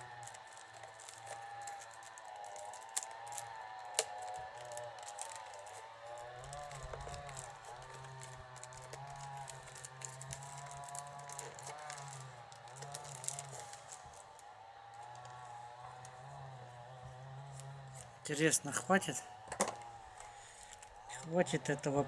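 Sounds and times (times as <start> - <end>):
wicker rods crackling and clicking: 0.0 - 22.0.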